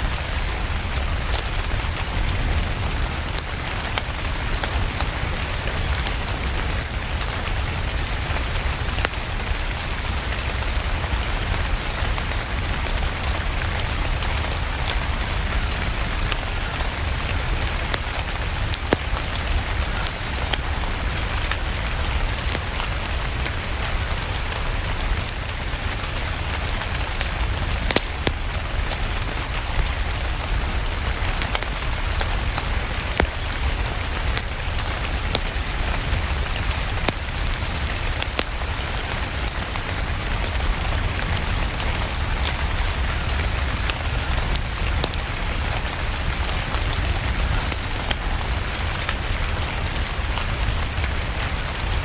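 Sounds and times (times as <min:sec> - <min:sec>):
fireplace fire crackling: 0:00.0 - 0:52.0
rain hissing: 0:00.0 - 0:52.0.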